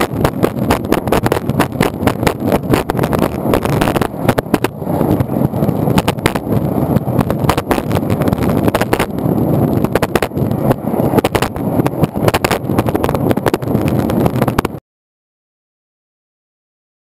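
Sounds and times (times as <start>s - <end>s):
skateboard wheels rumbling on asphalt: 0.0s - 14.8s.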